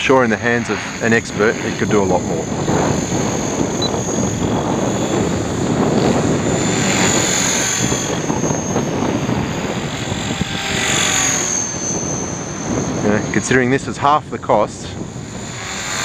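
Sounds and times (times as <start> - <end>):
rc helicopter rotor whir: 0.0 - 16.0.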